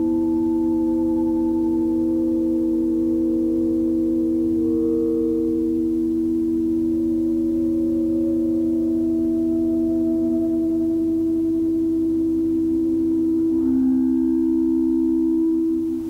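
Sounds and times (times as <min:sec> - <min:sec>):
ambient drone music: 0:00.0 - 0:16.0.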